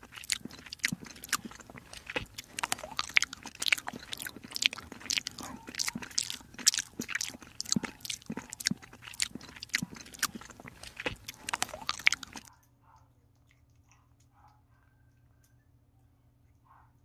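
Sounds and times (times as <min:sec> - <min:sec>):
kitten chewing wet food: 0:00.0 - 0:15.6
faint steady hum: 0:00.0 - 0:17.0.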